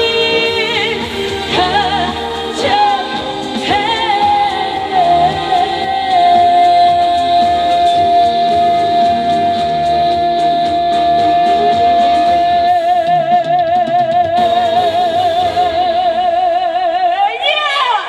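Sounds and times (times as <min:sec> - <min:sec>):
live band accompaniment: 0:00.0 - 0:17.1.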